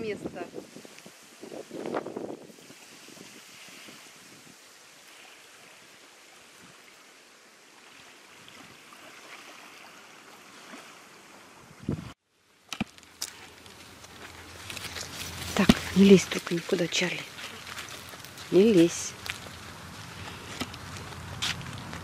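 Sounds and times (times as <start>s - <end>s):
light wind: 0.0s - 22.0s
small waves lapping on shore: 0.0s - 22.0s.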